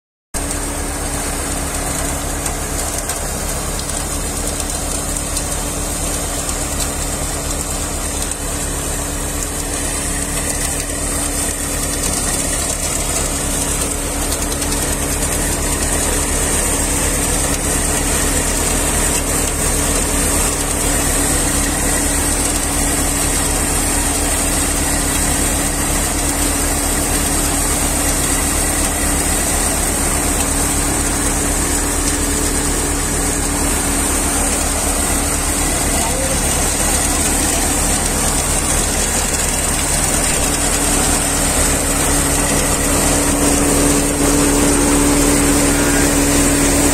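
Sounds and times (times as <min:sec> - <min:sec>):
thresher drum spinning: 0:00.4 - 0:46.9
tractor engine: 0:00.4 - 0:46.9.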